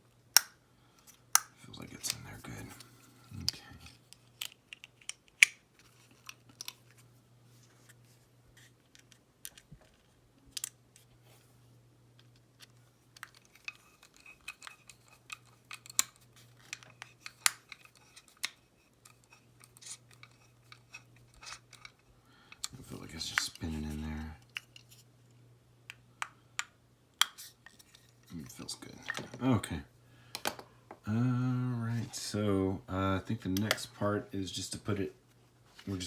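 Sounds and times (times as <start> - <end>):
faint low hum: 0.0 - 36.0.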